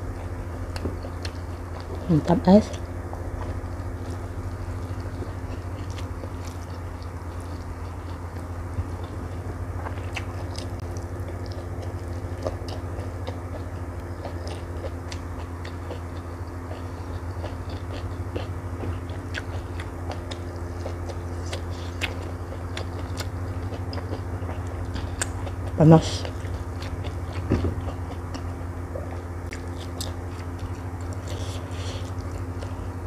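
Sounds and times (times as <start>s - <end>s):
steady low hum: 0.0s - 33.0s
chewing with wet clicks: 0.2s - 2.0s, 3.4s - 32.9s.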